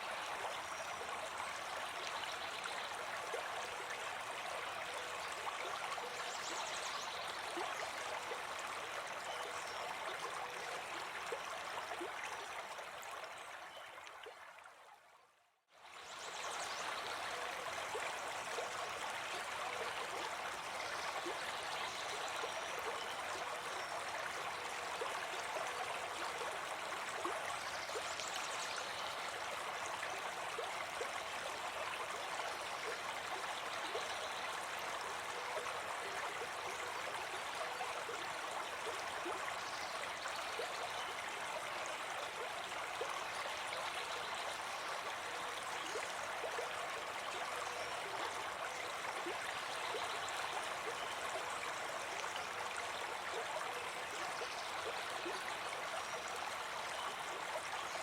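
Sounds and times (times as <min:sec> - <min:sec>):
brook babbling over stones: 0:00.0 - 0:15.1, 0:15.7 - 0:58.0.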